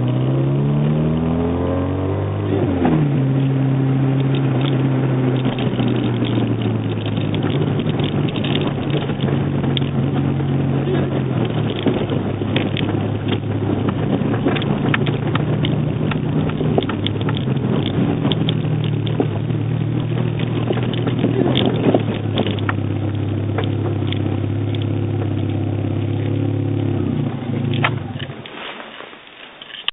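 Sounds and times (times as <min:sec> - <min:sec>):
car engine running: 0:00.0 - 0:28.5.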